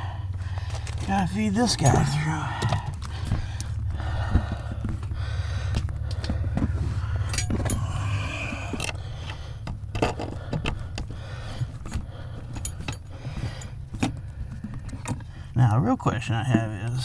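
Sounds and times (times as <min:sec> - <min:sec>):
metal scraping and clinking: 0:00.0 - 0:15.3
steady low hum: 0:00.0 - 0:17.0.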